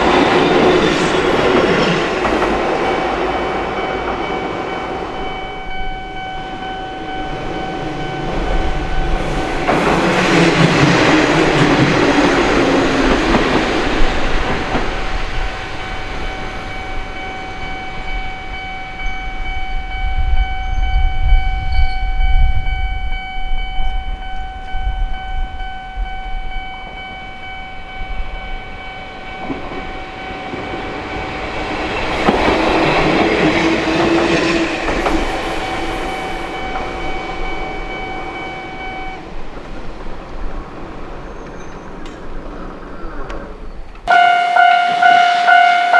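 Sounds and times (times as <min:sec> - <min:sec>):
crossing warning alarm ringing: 0:00.0 - 0:39.6, 0:44.1 - 0:45.9
train wheels clattering on rails: 0:00.0 - 0:45.9.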